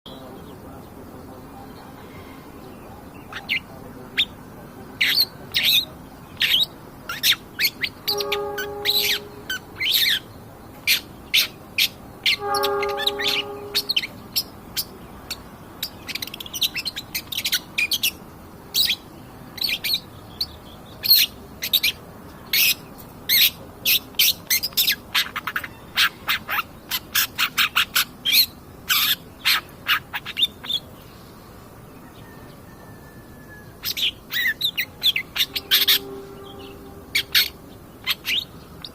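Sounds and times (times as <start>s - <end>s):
harsh low bird calls: 0.1s - 18.2s, 18.8s - 38.9s
shrike chattering song: 0.1s - 31.0s, 33.7s - 38.9s.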